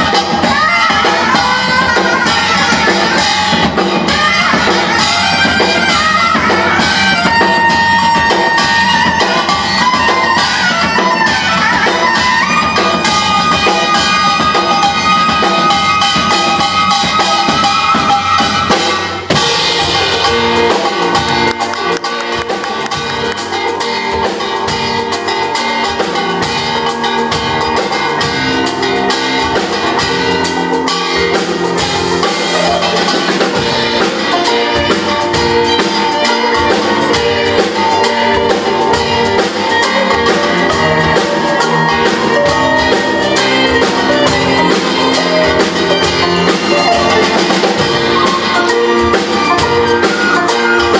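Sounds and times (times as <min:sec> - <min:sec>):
steady drum beat: 0:00.0 - 0:50.9
traditional ensemble melodic lines: 0:00.0 - 0:50.9.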